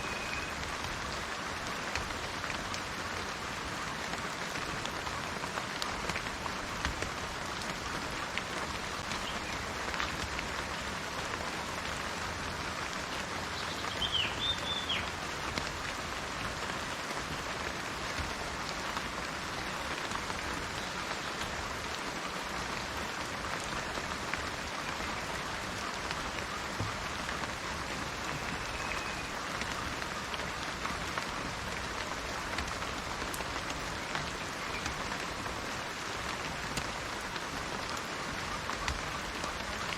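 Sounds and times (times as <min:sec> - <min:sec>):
rain on plants and trees: 0:00.0 - 0:39.9.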